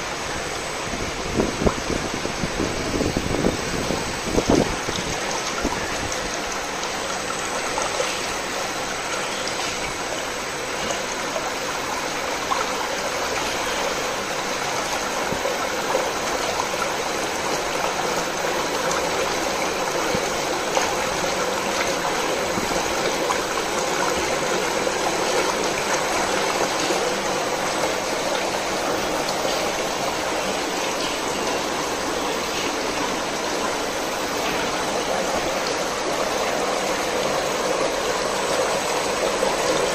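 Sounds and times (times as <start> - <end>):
mixer blade churning liquid: 0.0 - 39.9.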